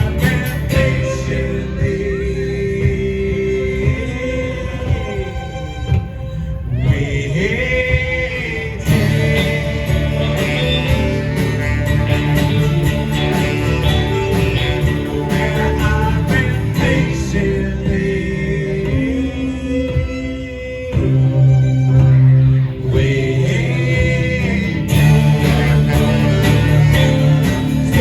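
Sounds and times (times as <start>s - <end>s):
guitar: 0.0s - 28.0s
steady drum beat: 0.0s - 28.0s.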